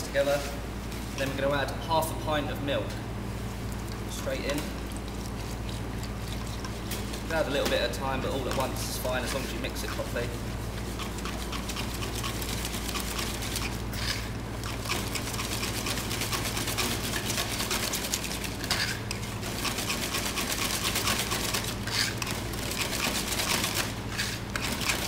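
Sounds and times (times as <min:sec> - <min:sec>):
whisk beating batter in a bowl: 0:04.5 - 0:25.0.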